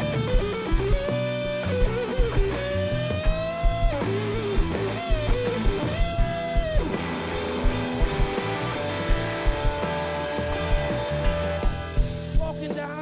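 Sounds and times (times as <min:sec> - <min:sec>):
electric guitar solo with bent notes: 0:00.0 - 0:12.8
bass guitar: 0:00.0 - 0:13.0
drums: 0:00.0 - 0:13.0.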